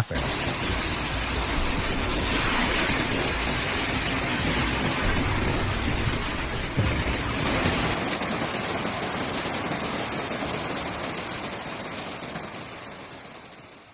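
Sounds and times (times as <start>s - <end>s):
water rushing: 0.0s - 13.3s.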